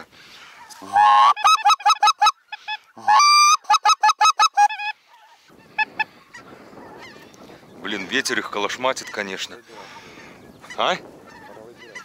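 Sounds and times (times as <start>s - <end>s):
geese honking: 0.5s - 7.4s, 8.9s - 12.0s.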